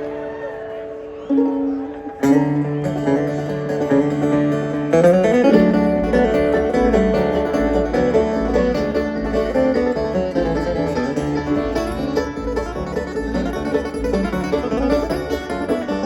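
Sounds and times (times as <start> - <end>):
banjo picking: 0.0 - 16.0
bluegrass band playing: 0.0 - 16.0
acoustic guitar picking: 1.5 - 16.0.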